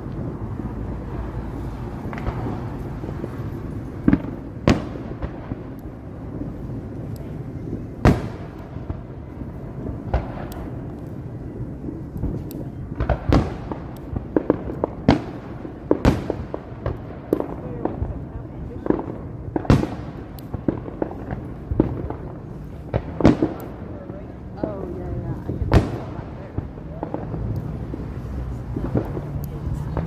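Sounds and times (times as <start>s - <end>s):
fireworks banging: 0.0s - 30.0s.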